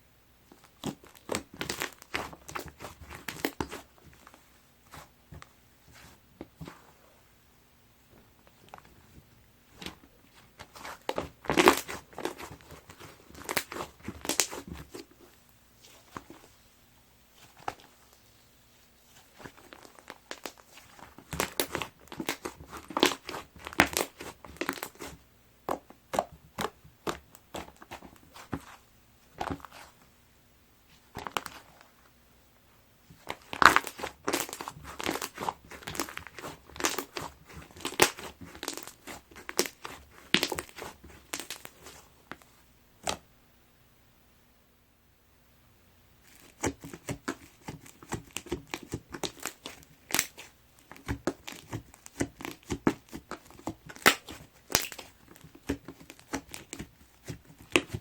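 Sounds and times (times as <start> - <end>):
slime crackling and crinkling: 0.5 - 7.1, 8.4 - 16.7, 17.3 - 30.0, 30.9 - 32.0, 33.1 - 43.2, 46.2 - 58.0.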